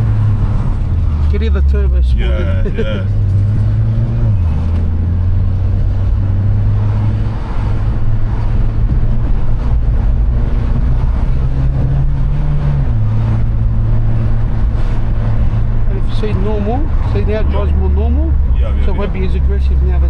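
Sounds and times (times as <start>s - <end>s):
car engine drone from inside cabin: 0.0s - 20.0s.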